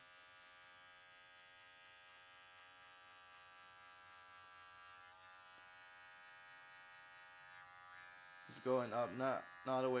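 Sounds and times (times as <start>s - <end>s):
electric hair clipper buzzing: 0.0s - 10.0s.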